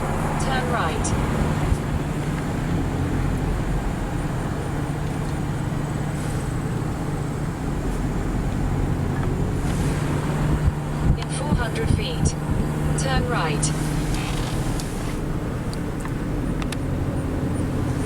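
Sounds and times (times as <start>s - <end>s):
car engine hum: 0.0s - 18.0s
road noise: 0.0s - 18.0s.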